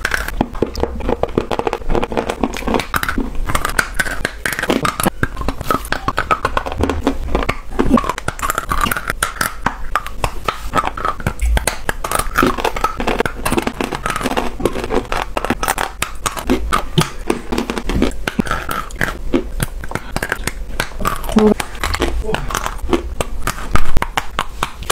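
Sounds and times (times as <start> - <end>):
crunching and chewing: 0.0 - 24.9.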